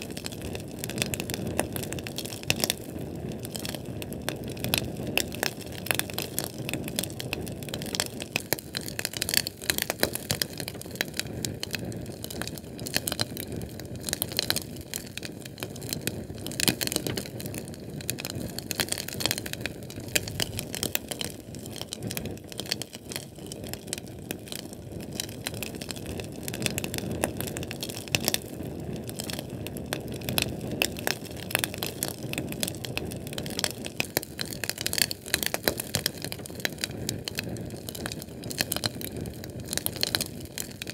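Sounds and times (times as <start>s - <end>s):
fuel can flame crackling: 0.0s - 40.9s.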